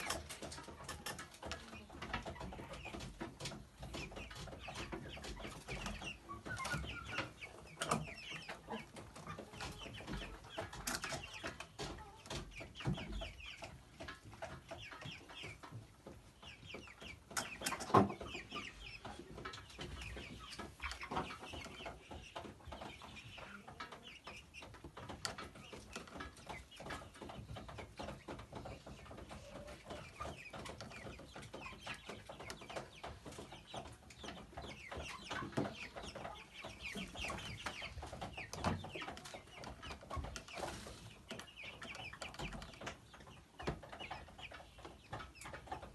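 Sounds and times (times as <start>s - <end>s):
hens clucking: 0.0s - 45.9s.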